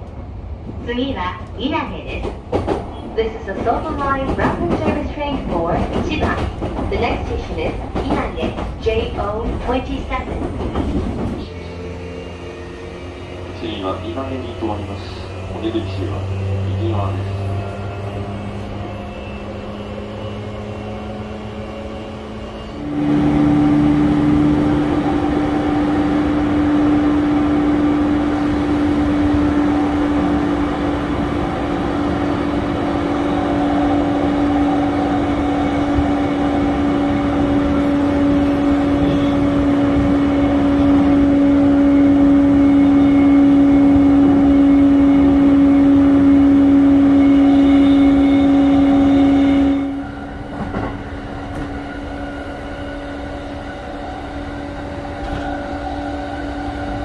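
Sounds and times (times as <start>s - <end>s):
electric train hum: 0.0s - 57.0s
wheels rumbling on rails: 0.0s - 57.0s.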